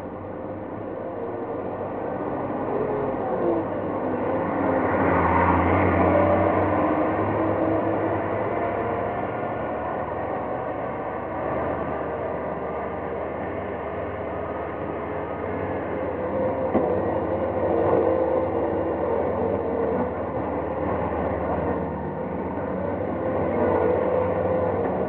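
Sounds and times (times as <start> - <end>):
faint engine tones: 0.0 - 25.0.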